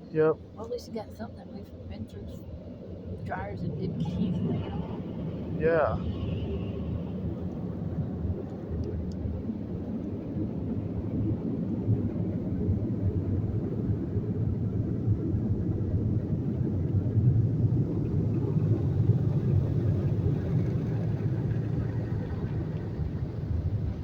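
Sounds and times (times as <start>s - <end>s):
muffled rumble inside car: 0.0s - 24.0s.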